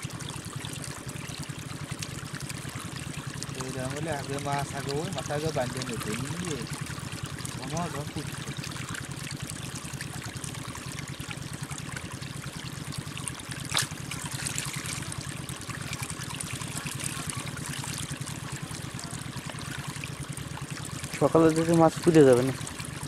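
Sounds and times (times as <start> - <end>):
water trickling through a channel: 0.0 - 23.0.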